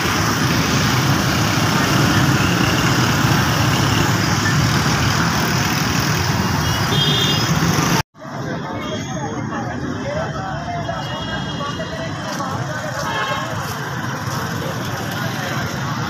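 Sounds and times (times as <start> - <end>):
motorcycle engines passing: 0.0 - 10.6, 11.8 - 16.0
road noise: 0.0 - 16.0.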